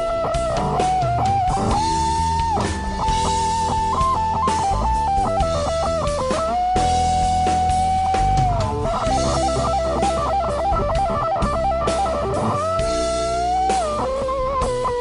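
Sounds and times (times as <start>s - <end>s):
bass and drums: 0.0s - 15.0s
electric guitar lead line: 0.0s - 15.0s.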